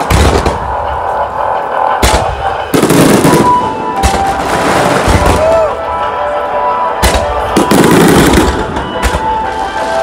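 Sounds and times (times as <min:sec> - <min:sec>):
fireworks booming: 0:00.0 - 0:05.8, 0:07.0 - 0:10.0
fireworks crackling: 0:00.0 - 0:06.3, 0:07.0 - 0:10.0.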